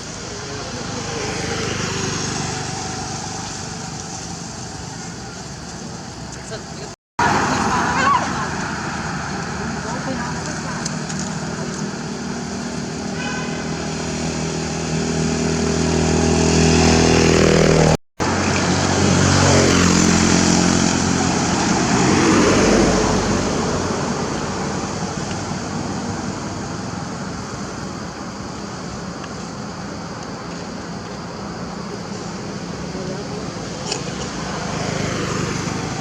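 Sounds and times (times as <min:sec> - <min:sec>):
vehicle engine passing by: 0:00.0 - 0:05.5, 0:07.2 - 0:27.4, 0:31.9 - 0:36.0.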